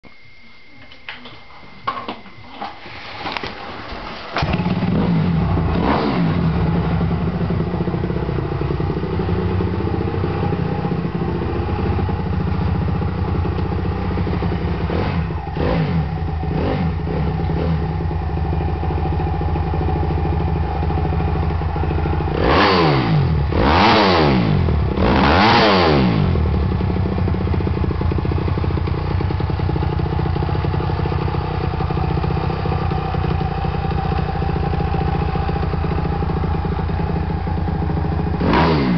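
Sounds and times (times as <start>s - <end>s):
motorcycle engine idling and revving: 4.4s - 38.9s.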